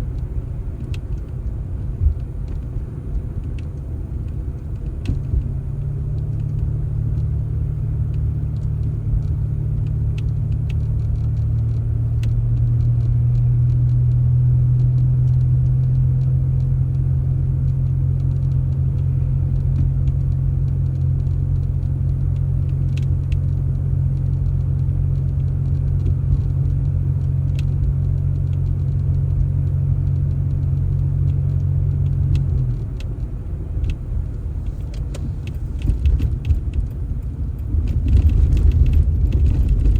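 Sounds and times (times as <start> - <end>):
vehicle engine droning: 0.0 - 39.9
small clicks and rattles: 0.1 - 39.9.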